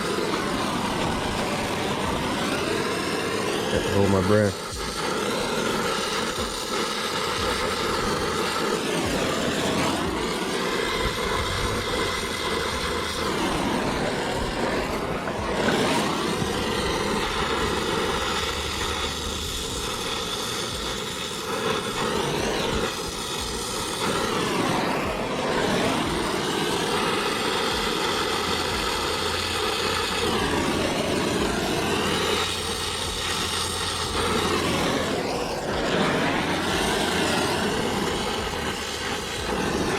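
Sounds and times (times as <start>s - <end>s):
torch flame roaring: 0.0s - 39.9s.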